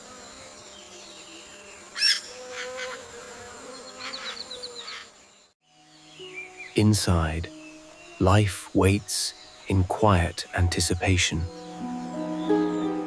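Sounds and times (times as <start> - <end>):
insect buzz: 0.0 - 13.0.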